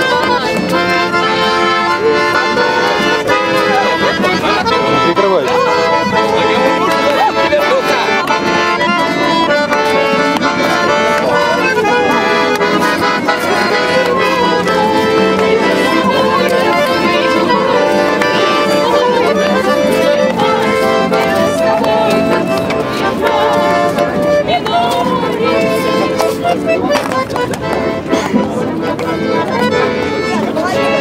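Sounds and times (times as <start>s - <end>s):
accordion dance tune: 0.0s - 31.0s.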